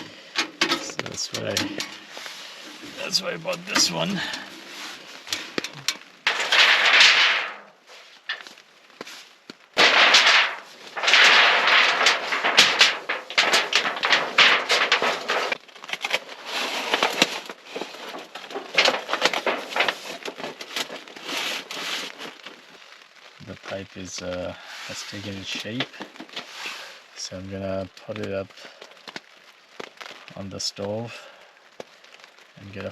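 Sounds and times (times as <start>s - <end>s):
thin metal sheet crackling and rattling: 0.0s - 32.9s.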